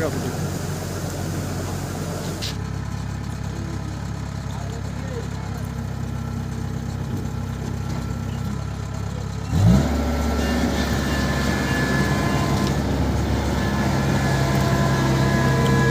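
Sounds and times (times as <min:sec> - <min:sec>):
combine harvester engine running: 0:00.0 - 0:15.9.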